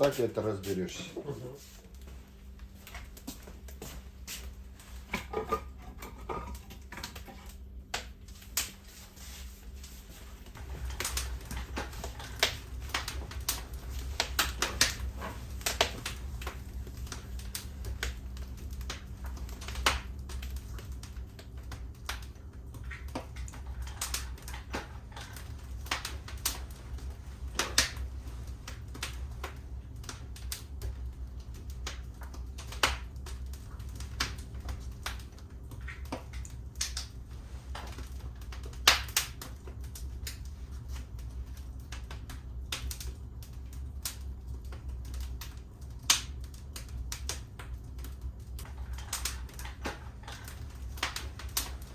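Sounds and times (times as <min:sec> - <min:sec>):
low fire rumble: 0:00.0 - 0:51.9
wood fire crackling: 0:00.0 - 0:51.9.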